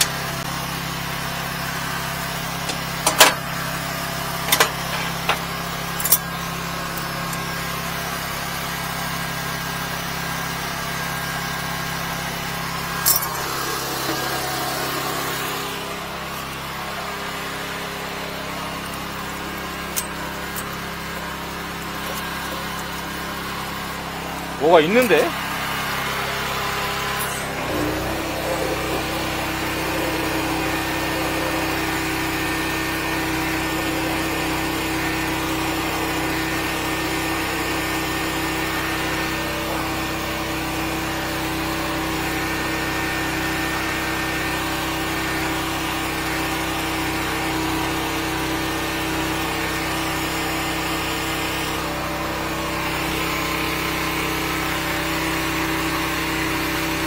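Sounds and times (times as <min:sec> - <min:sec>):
jetter engine running: 0:00.0 - 0:57.0.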